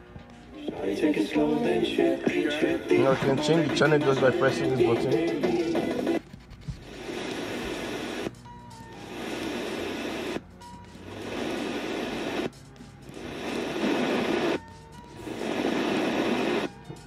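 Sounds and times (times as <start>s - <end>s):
radio static hiss: 2.4s - 8.4s, 9.0s - 16.8s.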